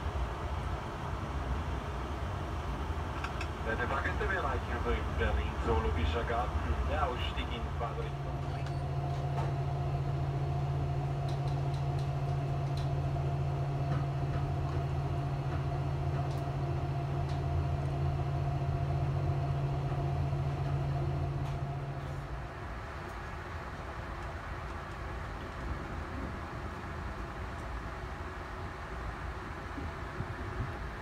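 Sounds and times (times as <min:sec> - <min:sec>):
train low hum: 0:00.0 - 0:31.0.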